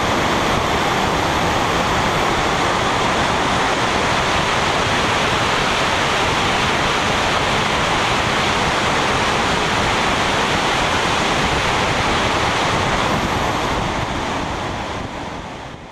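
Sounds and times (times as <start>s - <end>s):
wind rushing over microphone: 0.0s - 15.9s.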